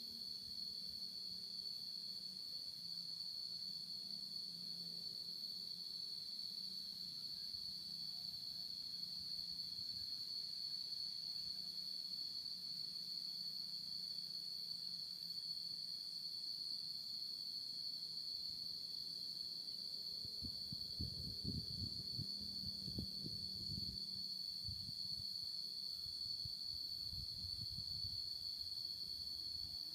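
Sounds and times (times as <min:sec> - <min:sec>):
insects buzzing: 0:00.0 - 0:29.9.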